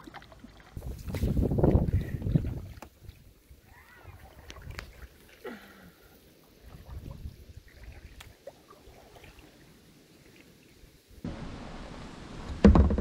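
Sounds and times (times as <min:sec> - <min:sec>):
water against kayak hull: 0:00.0 - 0:13.0.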